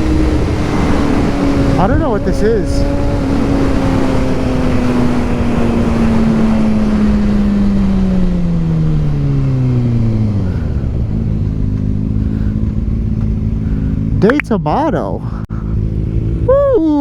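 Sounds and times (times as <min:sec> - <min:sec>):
wind rushing over microphone: 0:00.0 - 0:14.4
motorcycle engine slowing: 0:00.0 - 0:17.0.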